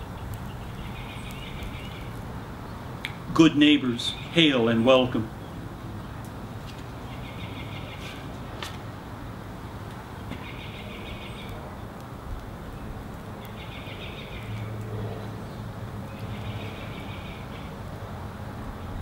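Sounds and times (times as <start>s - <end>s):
songbird singing: 0.0s - 17.8s.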